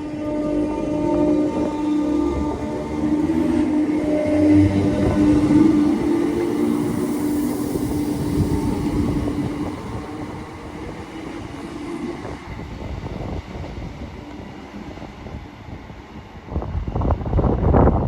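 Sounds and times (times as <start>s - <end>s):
electric train hum and rumble: 0.0s - 18.0s.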